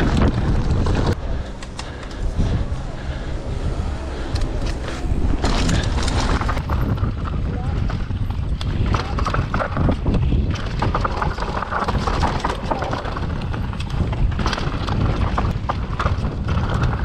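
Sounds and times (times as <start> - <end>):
mountain bike rattling over trail: 0.0 - 17.0.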